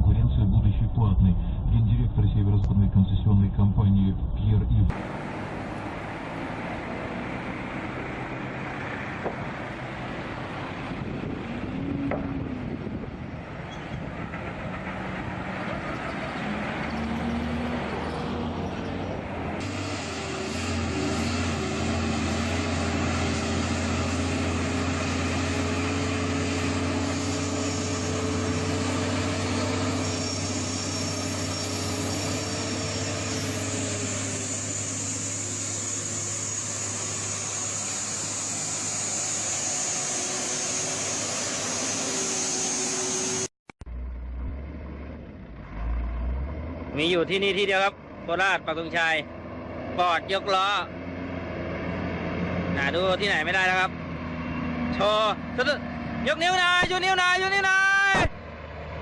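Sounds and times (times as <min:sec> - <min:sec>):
heavy truck engine droning: 0:00.0 - 0:59.0
road and wind noise: 0:00.0 - 0:59.0.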